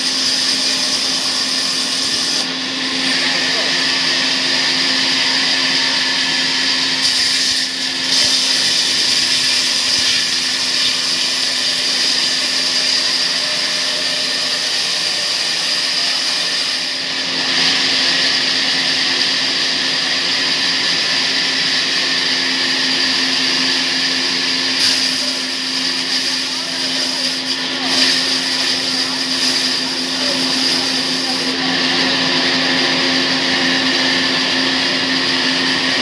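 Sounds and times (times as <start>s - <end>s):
sawmill saw whining: 0.0s - 36.0s.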